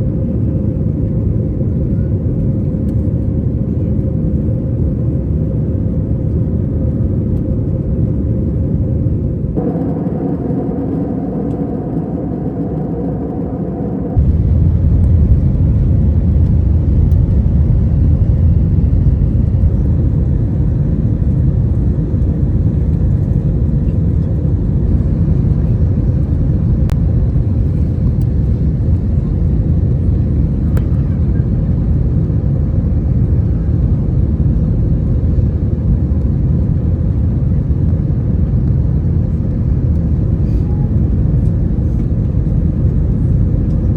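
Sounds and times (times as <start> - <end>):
jet engine cabin rumble: 0.0 - 43.9
faint engine tones: 0.2 - 32.0, 40.2 - 43.9.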